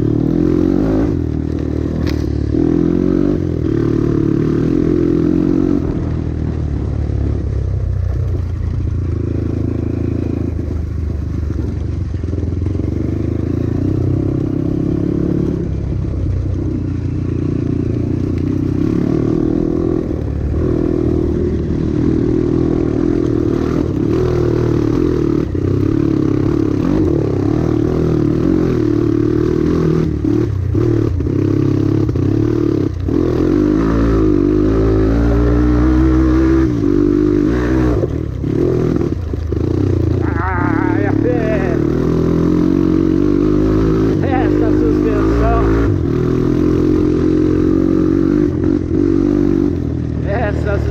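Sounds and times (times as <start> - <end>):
dirt bike engine revving: 0.0 - 7.1, 9.0 - 15.9, 16.6 - 50.9.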